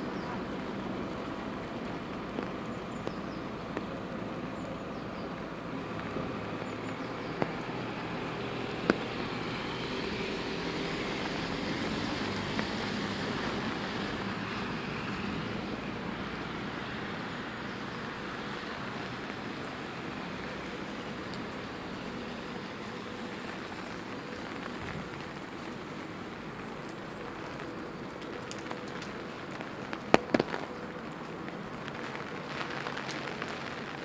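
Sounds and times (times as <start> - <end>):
traffic on a wet street: 0.0 - 34.0.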